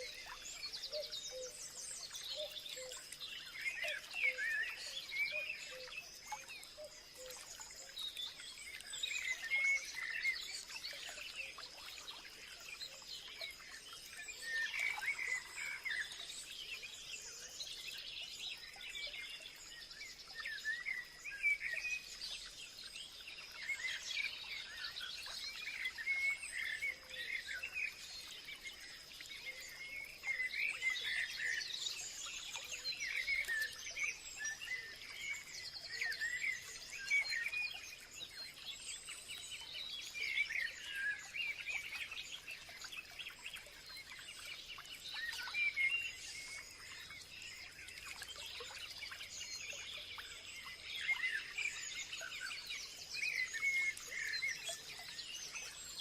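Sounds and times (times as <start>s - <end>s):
songbirds chirping and warbling: 0.0s - 56.0s.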